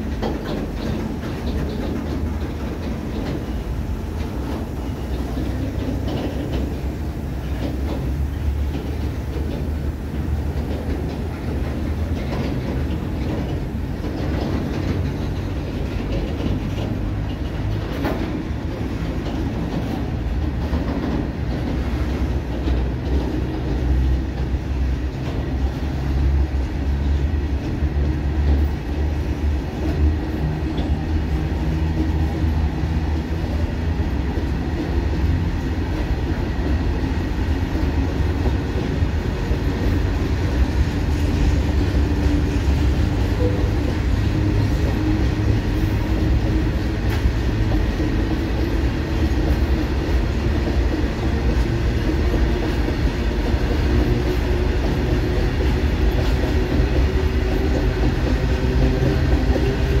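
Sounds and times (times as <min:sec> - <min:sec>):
freight train wheels rumbling on rails: 0:00.0 - 1:00.0.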